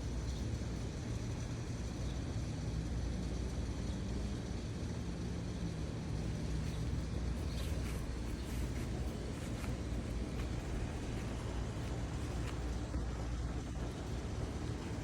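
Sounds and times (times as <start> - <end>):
faint low hum: 0.0 - 15.0
low outdoor rumble: 0.0 - 15.0.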